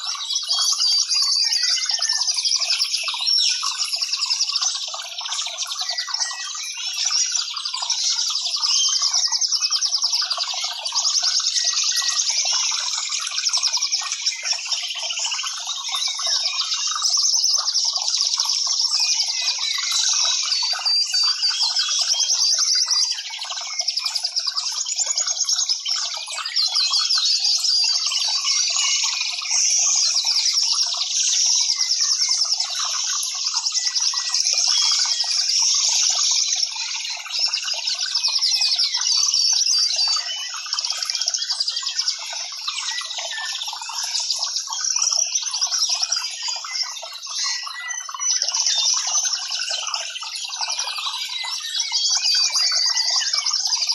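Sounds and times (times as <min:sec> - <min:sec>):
small birds chirping and trilling: 0:00.0 - 0:53.9.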